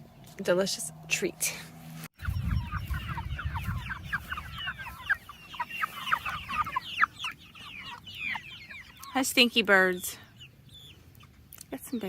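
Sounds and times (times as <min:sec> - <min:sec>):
chickens clucking and cheeping: 0:02.2 - 0:12.0.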